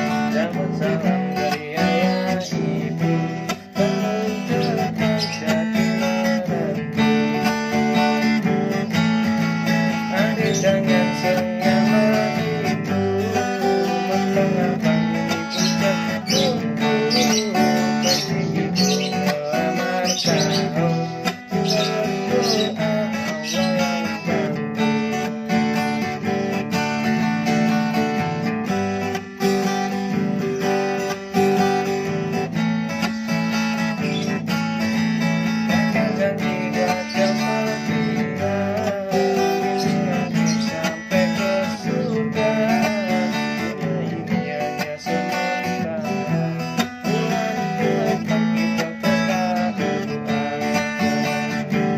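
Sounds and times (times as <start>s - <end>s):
acoustic guitar strumming: 0.0s - 51.9s
person singing: 0.0s - 51.9s.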